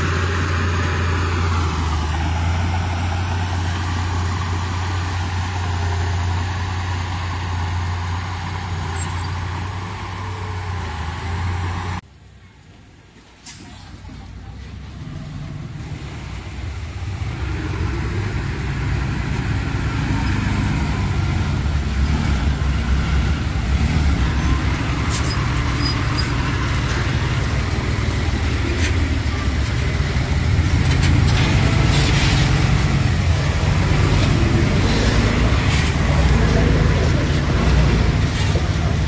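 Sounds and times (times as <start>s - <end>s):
bulldozer diesel engine running: 0.0s - 12.0s, 13.9s - 39.0s.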